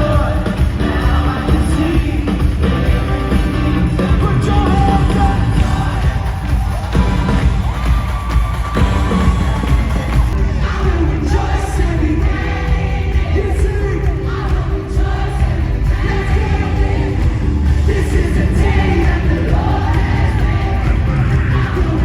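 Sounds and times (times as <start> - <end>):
many voices singing together: 0.0 - 7.8, 8.5 - 22.0
band with heavy bass: 0.0 - 22.0.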